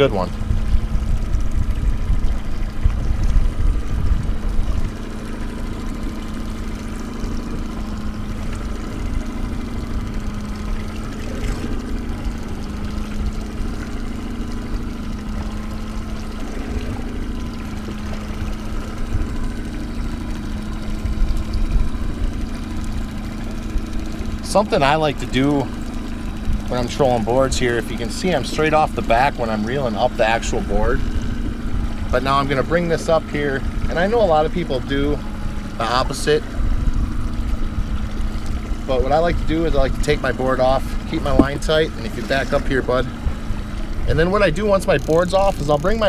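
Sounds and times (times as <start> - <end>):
heavy low rumble: 0.0 - 22.9, 26.3 - 46.0
boat motor humming: 0.0 - 46.0.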